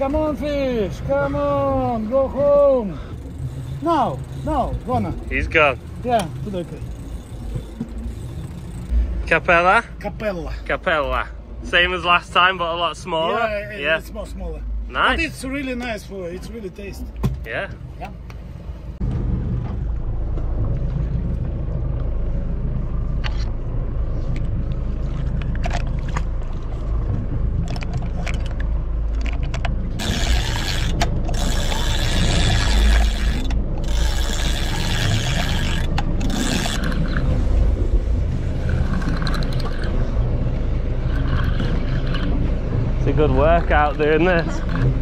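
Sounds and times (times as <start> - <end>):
boat engine rumble: 0.0 - 45.0.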